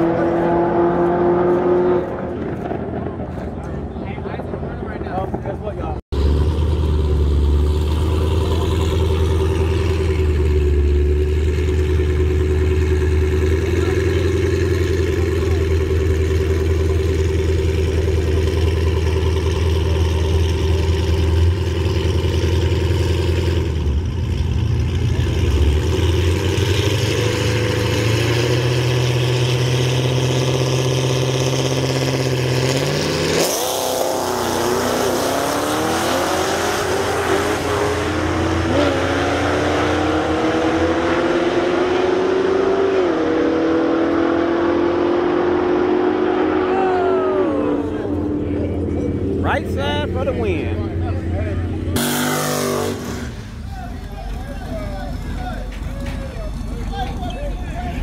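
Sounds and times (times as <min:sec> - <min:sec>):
drag racing engines revving: 0:00.0 - 0:58.0.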